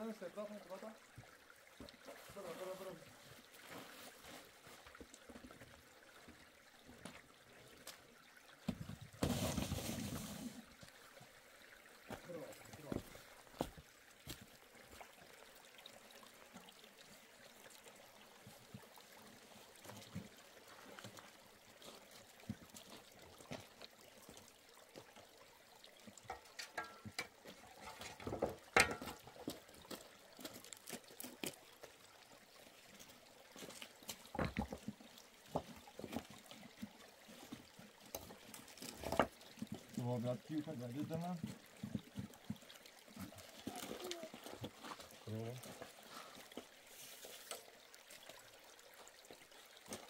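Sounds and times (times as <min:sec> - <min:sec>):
water trickling: 0:00.0 - 0:50.0.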